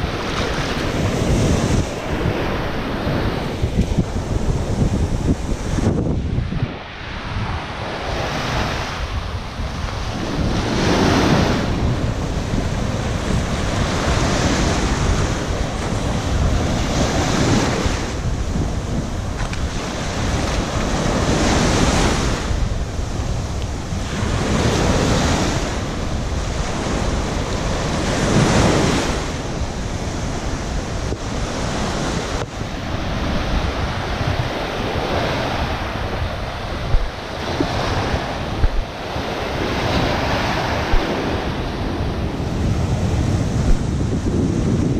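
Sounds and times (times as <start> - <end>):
surf breaking on sandy shore: 0.0 - 44.9
wind buffeting microphone: 0.0 - 44.9.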